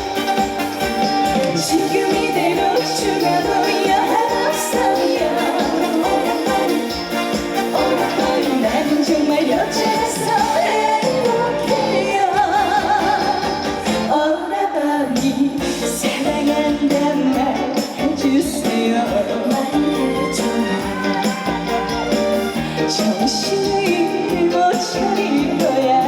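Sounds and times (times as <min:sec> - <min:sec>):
live band playing: 0:00.0 - 0:14.5, 0:15.1 - 0:26.0
woman singing with vibrato: 0:01.4 - 0:26.0.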